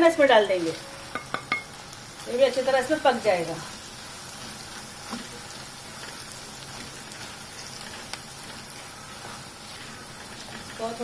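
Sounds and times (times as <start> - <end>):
chillies sizzling in hot oil: 0.0 - 11.0.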